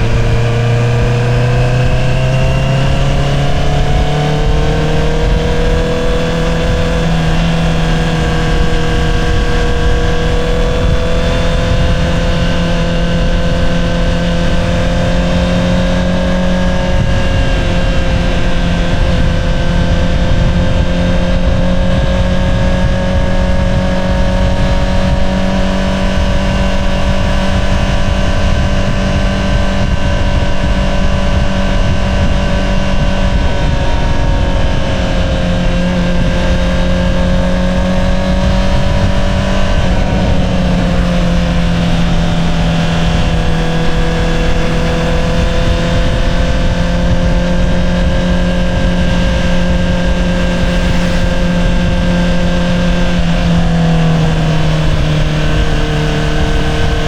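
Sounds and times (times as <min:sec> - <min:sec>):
constant low rush: 0:00.0 - 0:57.0
motorcycle engine cruising: 0:00.0 - 0:57.0.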